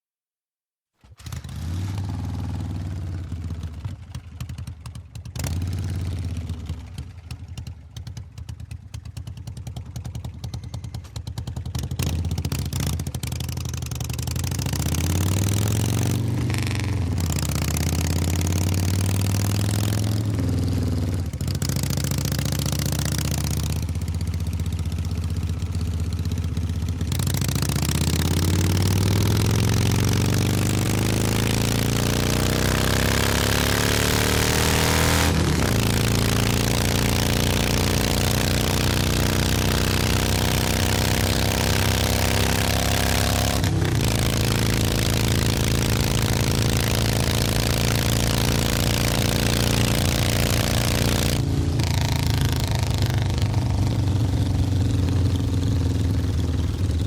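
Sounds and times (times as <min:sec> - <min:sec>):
motorcycle engine revving: 0:01.0 - 0:57.0.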